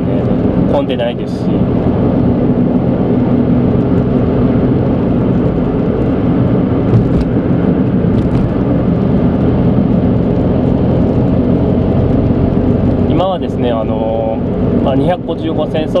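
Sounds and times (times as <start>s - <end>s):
car engine hum: 0.0s - 16.0s
tyre and road noise: 0.0s - 16.0s.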